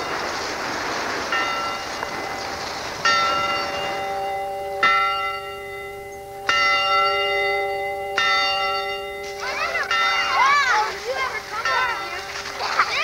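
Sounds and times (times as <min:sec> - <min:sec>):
church bell tolling: 0:00.0 - 0:13.0.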